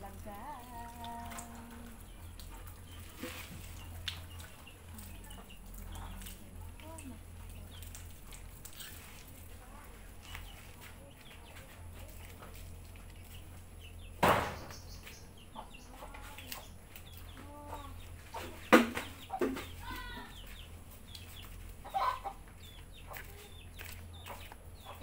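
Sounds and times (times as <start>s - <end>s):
chickens clucking: 0.1s - 8.5s, 9.8s - 25.0s.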